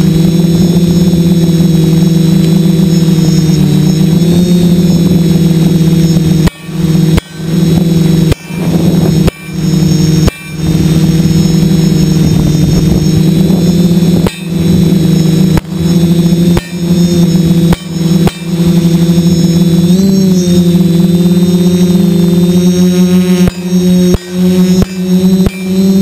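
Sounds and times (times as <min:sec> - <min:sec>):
drone propellers whining: 0:00.0 - 0:26.0.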